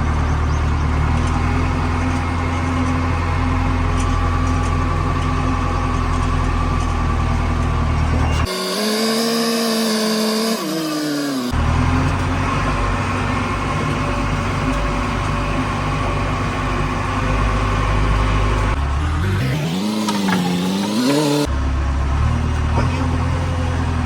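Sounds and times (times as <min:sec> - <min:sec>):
pitched whine: 0:00.0 - 0:21.5
diesel engine running: 0:00.0 - 0:24.0.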